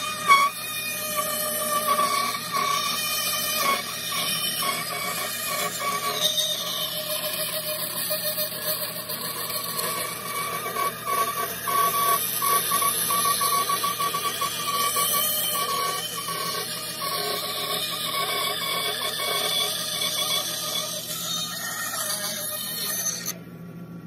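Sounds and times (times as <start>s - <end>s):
band saw cutting wood: 0.0s - 23.4s.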